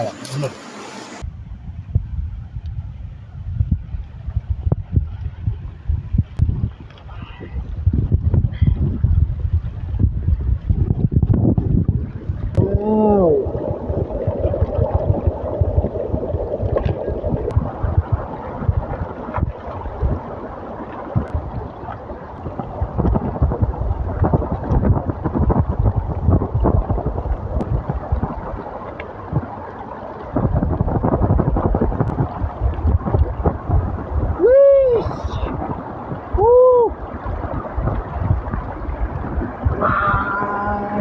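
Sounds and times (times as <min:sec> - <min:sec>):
wind buffeting microphone: 0:01.2 - 0:41.0
water sloshing and splashing: 0:04.0 - 0:34.4, 0:35.1 - 0:41.0.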